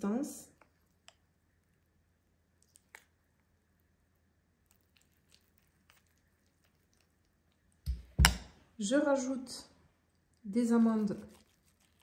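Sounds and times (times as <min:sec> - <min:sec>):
soft squishes of oat mixture: 0:00.0 - 0:08.2, 0:09.8 - 0:12.0.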